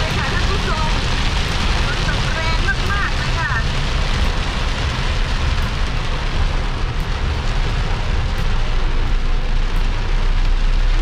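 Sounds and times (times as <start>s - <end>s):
rain hissing: 0.0s - 11.0s
road rumble: 0.0s - 11.0s.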